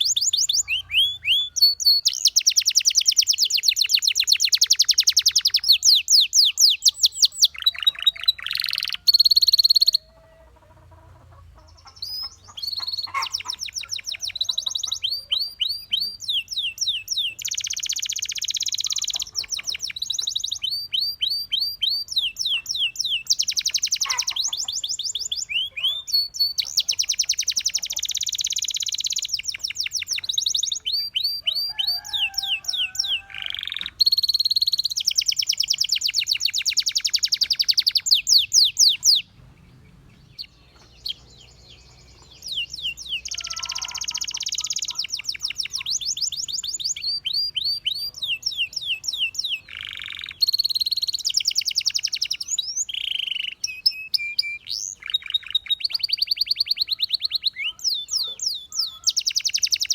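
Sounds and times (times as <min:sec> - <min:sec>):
canary singing and trilling: 0:00.0 - 0:59.9.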